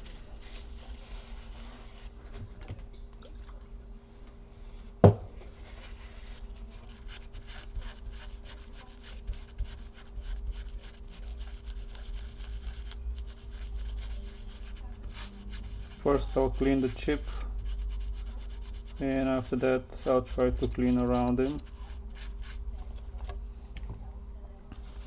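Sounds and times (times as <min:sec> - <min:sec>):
cloth rubbing strokes: 0:00.0 - 0:02.6, 0:04.4 - 0:23.2, 0:24.8 - 0:25.0.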